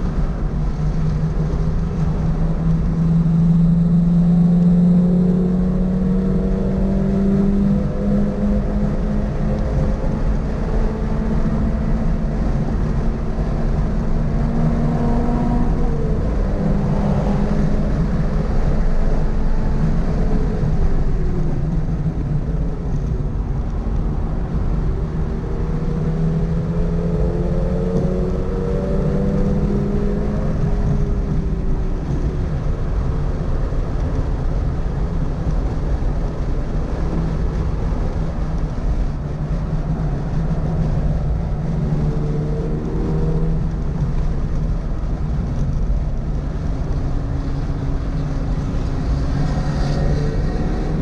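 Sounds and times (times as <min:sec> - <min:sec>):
car engine accelerating: 0:00.0 - 0:51.0
road and wind noise: 0:00.0 - 0:51.0.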